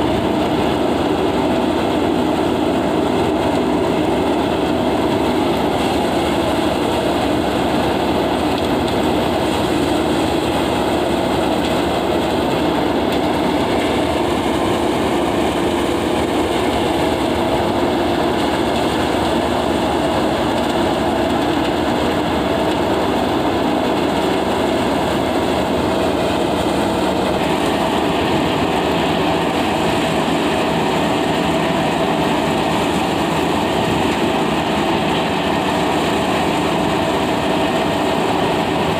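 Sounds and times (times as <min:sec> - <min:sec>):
tractor engine: 0:00.0 - 0:38.9.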